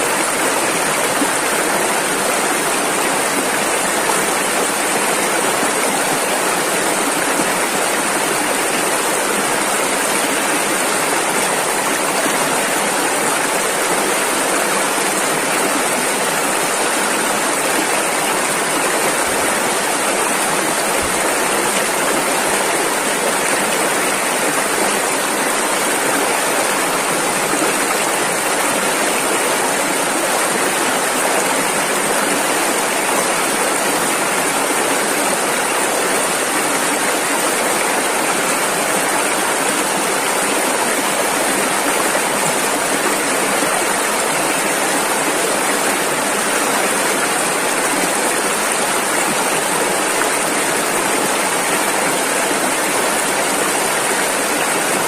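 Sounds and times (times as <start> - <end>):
river rapids rushing: 0.0 - 55.0.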